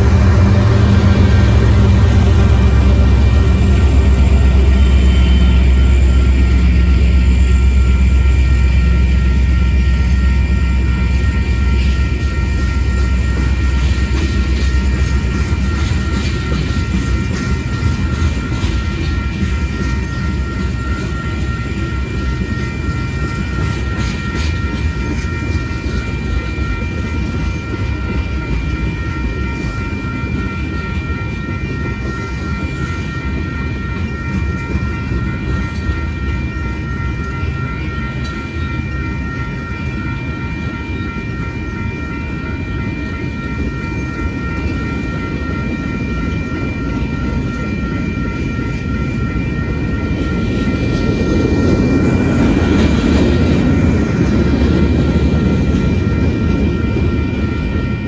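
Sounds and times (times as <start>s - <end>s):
crossing warning bell ringing: 0.0s - 58.0s
train wheels rumbling on rails: 0.0s - 58.0s.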